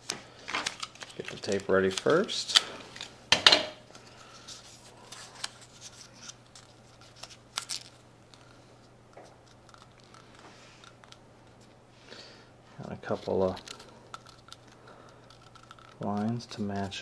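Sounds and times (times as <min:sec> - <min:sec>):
paper and tape rustling: 0:00.0 - 0:03.1, 0:03.9 - 0:11.8, 0:12.8 - 0:17.0.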